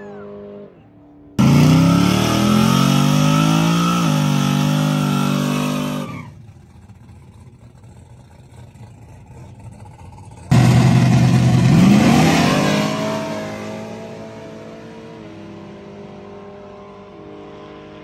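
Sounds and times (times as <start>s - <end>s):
drag car engine revving: 1.4s - 17.3s.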